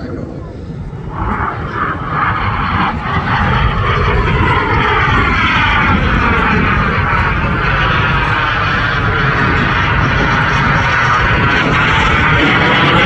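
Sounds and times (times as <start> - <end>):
jet aircraft flying past: 0.0 - 13.0.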